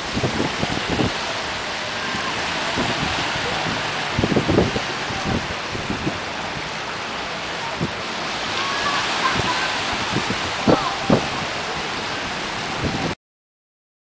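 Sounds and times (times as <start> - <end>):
small waves breaking: 0.0 - 13.2
wind on microphone: 0.0 - 13.2.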